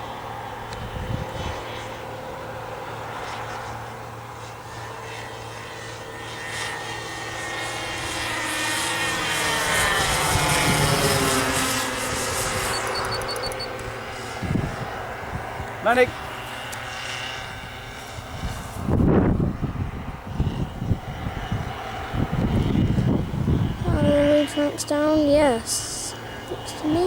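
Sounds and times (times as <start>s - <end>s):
model plane engines passing: 0.0s - 27.0s.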